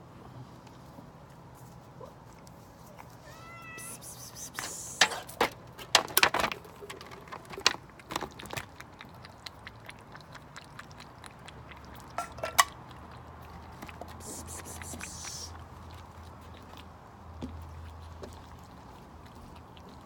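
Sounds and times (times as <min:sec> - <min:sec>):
cats chewing and crunching food: 0:00.0 - 0:20.0.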